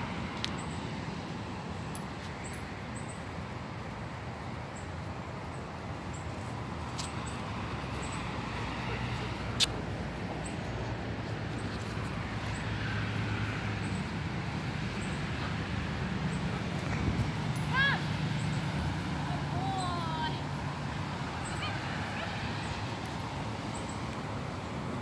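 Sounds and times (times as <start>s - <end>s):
distant traffic rumble: 0.0s - 25.0s.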